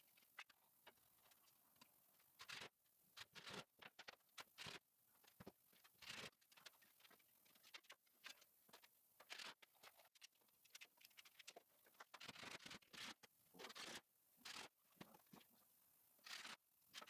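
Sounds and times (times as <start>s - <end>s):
faint irregular clicking and rustling: 0.0s - 17.0s.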